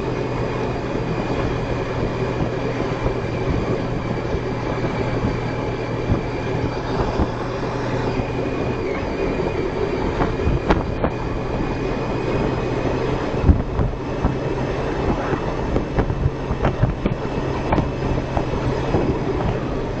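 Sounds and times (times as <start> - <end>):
motorcycle engine running: 0.0 - 20.0
road noise: 0.0 - 20.0
wind noise: 0.0 - 20.0.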